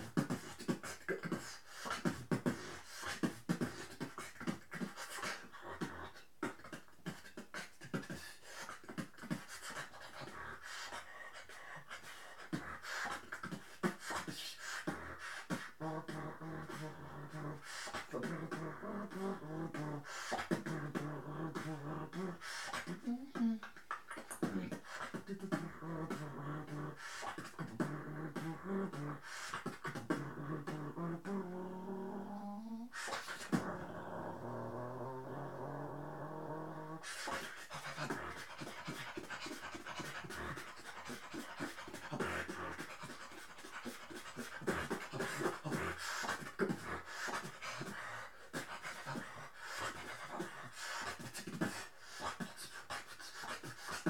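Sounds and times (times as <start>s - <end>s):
beatboxing into microphone: 0.0s - 54.0s.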